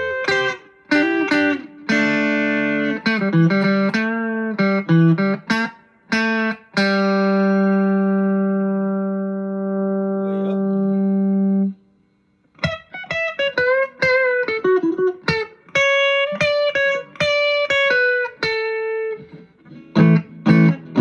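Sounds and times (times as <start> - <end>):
compressed electric guitar: 0.0 - 21.0.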